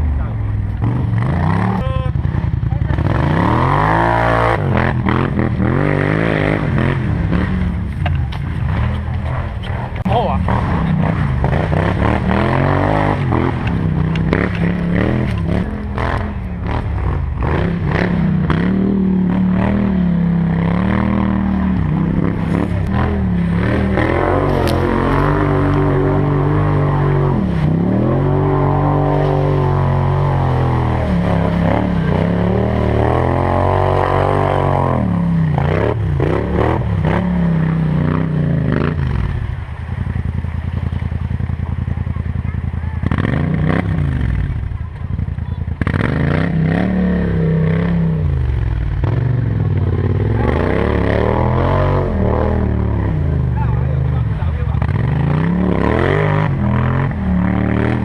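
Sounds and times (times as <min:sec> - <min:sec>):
atv engine rising and falling: 0:00.0 - 0:58.0.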